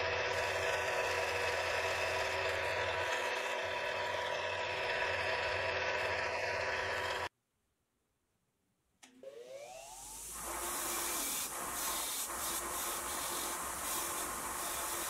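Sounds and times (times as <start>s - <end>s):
wire wheel motor whining: 0.0s - 7.3s, 9.0s - 15.0s.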